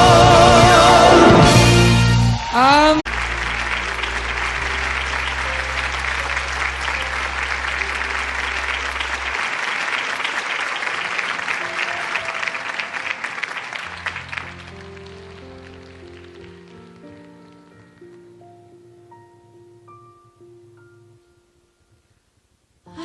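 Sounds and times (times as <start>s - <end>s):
audience applauding: 0.0s - 18.4s.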